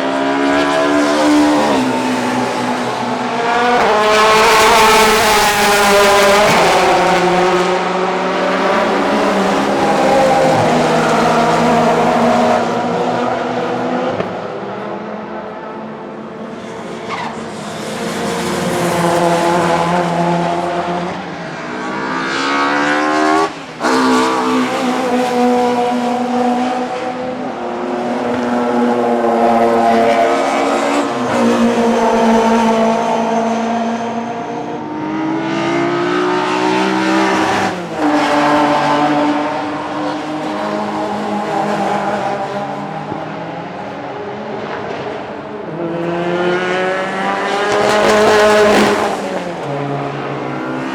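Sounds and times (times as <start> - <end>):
racing car engines accelerating: 0.0 - 50.9.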